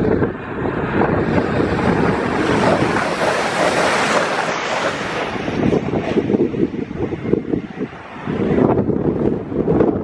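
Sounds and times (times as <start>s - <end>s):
train passing at speed: 0.0s - 10.0s
wind buffeting microphone: 0.0s - 10.0s.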